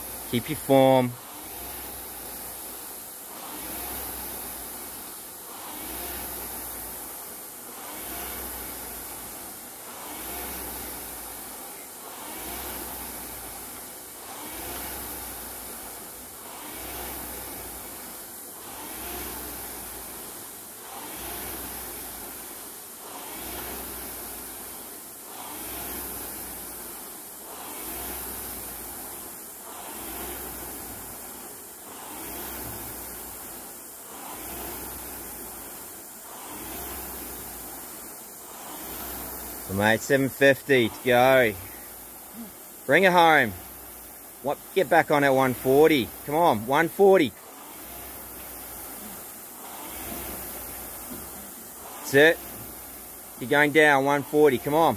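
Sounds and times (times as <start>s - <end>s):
rowing machine flywheel whooshing: 0.0s - 54.9s.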